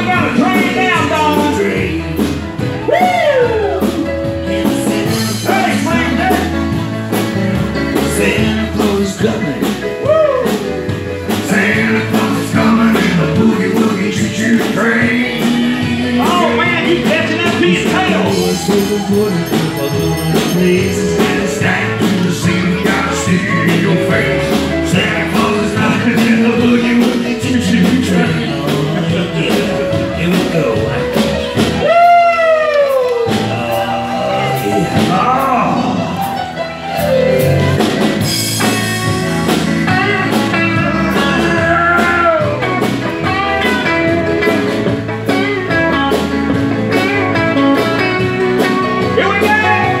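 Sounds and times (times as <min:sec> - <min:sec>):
man singing: 0:00.0 - 0:06.8, 0:07.8 - 0:36.3, 0:38.6 - 0:44.9, 0:47.7 - 0:50.0
electric guitar: 0:00.0 - 0:50.0
live rock and roll band: 0:00.0 - 0:50.0.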